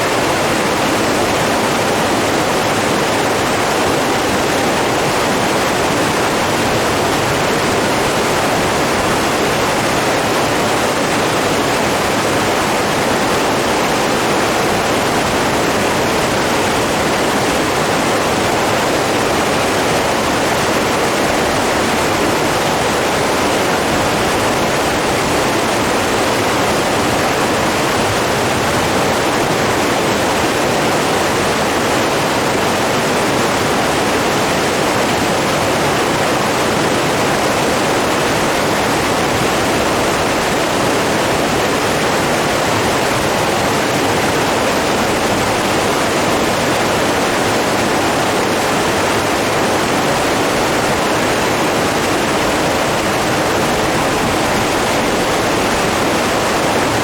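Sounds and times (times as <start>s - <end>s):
rushing water roar: 0.0s - 57.0s.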